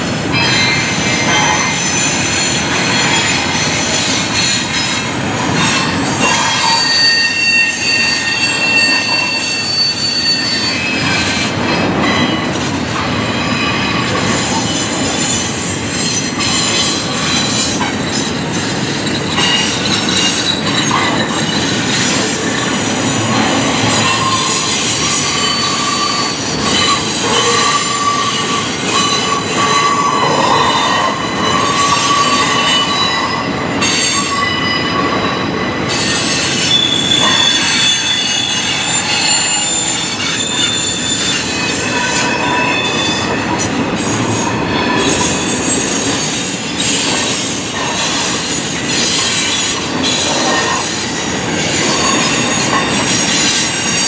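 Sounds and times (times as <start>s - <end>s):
train wheels rumbling and clattering: 0.0s - 54.0s
wheel squeals: 0.4s - 54.0s.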